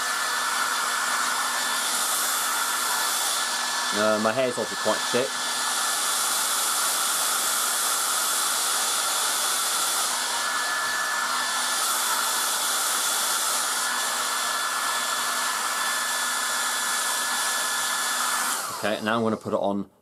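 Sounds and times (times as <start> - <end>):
hairdryer air rushing: 0.0 - 19.6.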